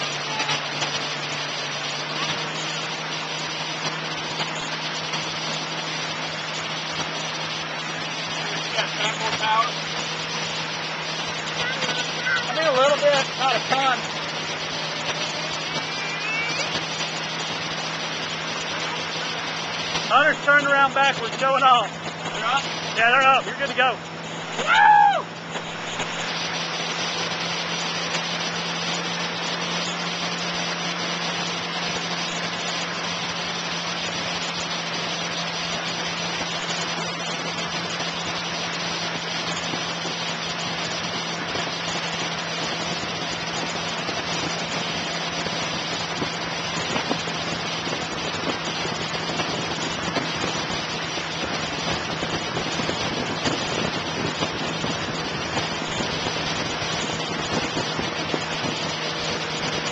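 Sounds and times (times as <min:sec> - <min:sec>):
boat engine humming: 0:00.0 - 0:59.9
water churning and splashing: 0:00.0 - 0:59.9.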